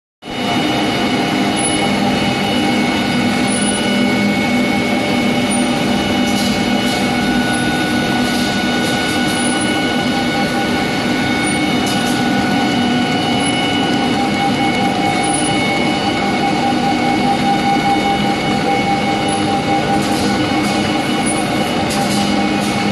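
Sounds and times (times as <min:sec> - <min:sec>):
paper cutting machine drone: 0:00.2 - 0:22.9
rollers whirring: 0:00.3 - 0:22.9.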